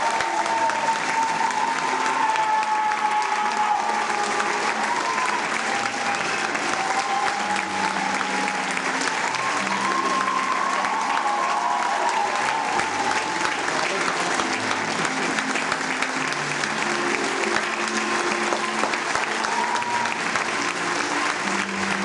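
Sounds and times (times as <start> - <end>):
audience applauding: 0.0 - 22.0
music playing: 0.0 - 22.0.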